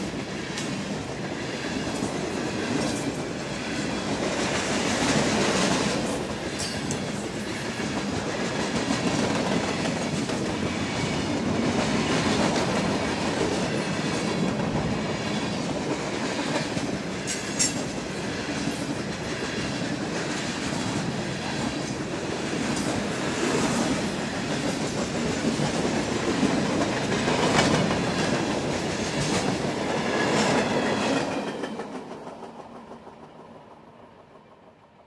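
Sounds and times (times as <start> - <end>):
wheels clacking on rail: 0.0 - 34.8
freight train wheels rumbling on rail: 0.0 - 35.0.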